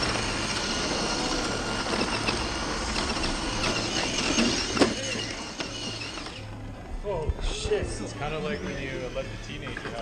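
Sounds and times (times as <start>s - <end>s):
motor and gears whining: 0.0s - 10.0s.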